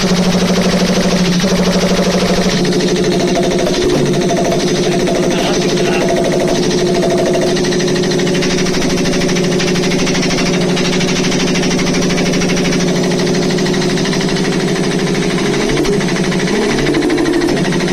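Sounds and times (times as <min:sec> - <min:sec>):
piston air compressor pumping: 0:00.0 - 0:17.9.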